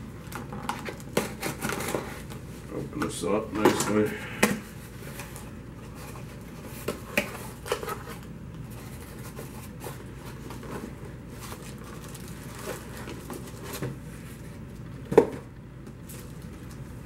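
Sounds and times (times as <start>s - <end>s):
cardboard and plastic rustling: 0.2s - 17.0s.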